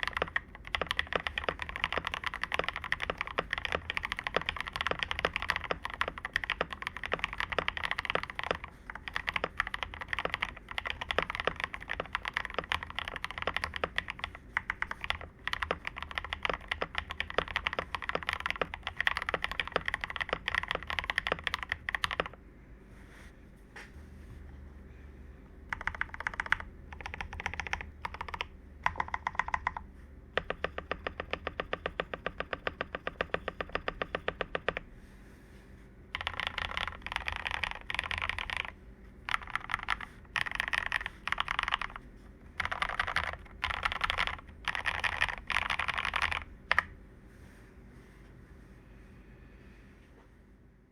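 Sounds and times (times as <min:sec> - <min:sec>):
mechanical keyboard typing: 0:00.0 - 0:22.4, 0:25.7 - 0:34.8, 0:36.1 - 0:42.0, 0:42.6 - 0:46.9.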